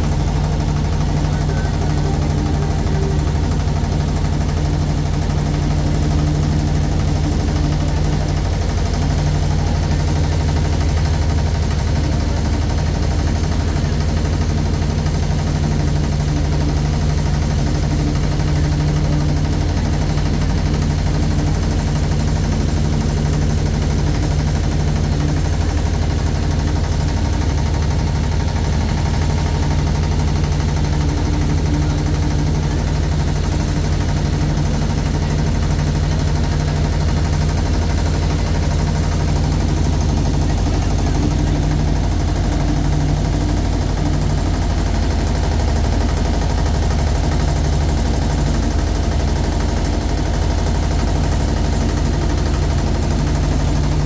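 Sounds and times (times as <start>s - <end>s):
motorboat engine droning: 0.0s - 54.0s.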